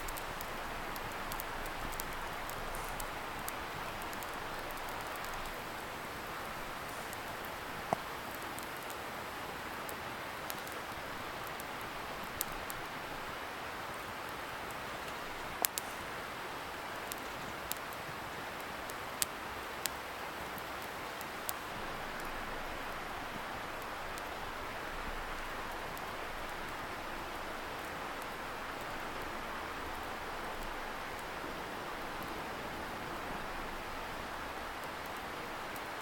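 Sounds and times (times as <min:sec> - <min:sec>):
campfire crackling and popping: 0:00.0 - 0:36.0
distant river hiss: 0:00.0 - 0:36.0.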